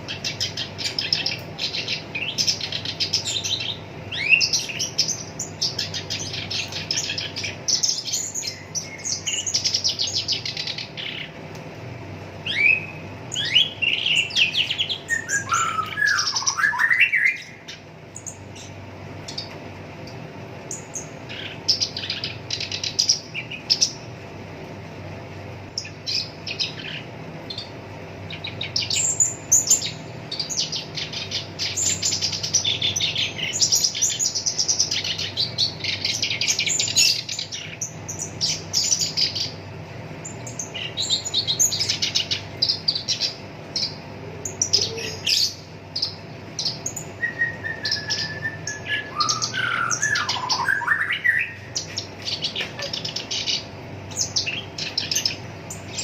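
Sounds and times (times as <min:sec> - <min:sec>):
faint steady hum: 0:00.0 - 0:56.0
warbler chattering song: 0:00.0 - 0:56.0.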